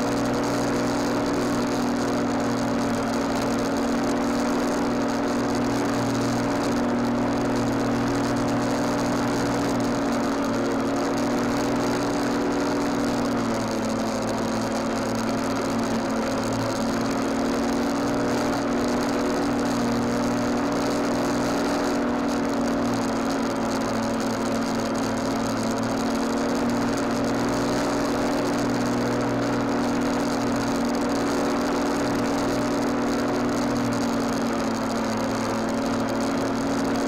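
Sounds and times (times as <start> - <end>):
lawnmower running: 0.0 - 37.0.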